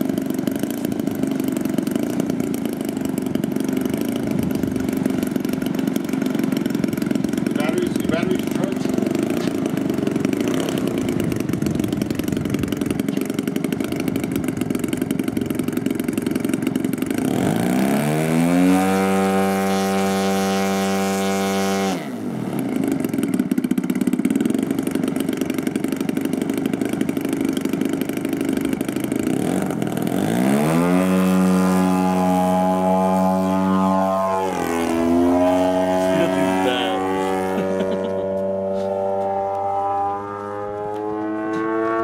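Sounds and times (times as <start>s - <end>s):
model plane engine revving: 0.0s - 42.0s.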